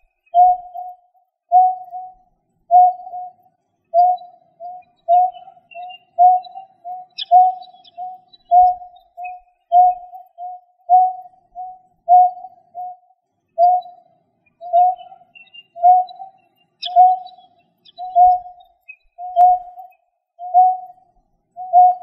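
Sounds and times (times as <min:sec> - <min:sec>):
low hollow bird call: 0:00.0 - 0:13.0, 0:14.6 - 0:21.0, 0:21.6 - 0:22.0
faint high chirps: 0:00.0 - 0:22.0.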